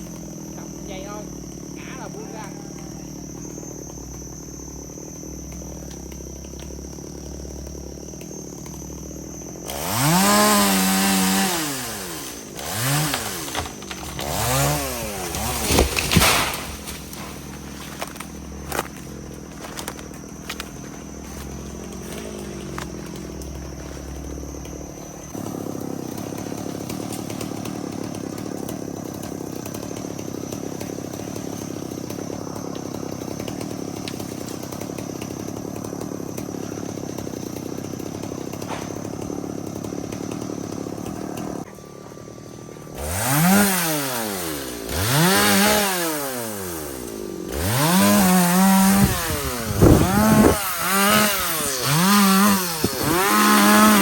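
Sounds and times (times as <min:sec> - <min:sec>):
chainsaw running and revving: 0:00.0 - 0:54.0.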